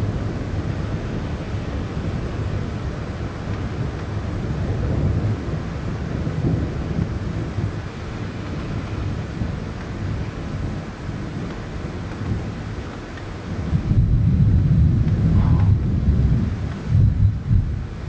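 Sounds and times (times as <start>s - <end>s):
deep rolling thunder: 0.0s - 18.0s
steady rain: 0.0s - 18.0s.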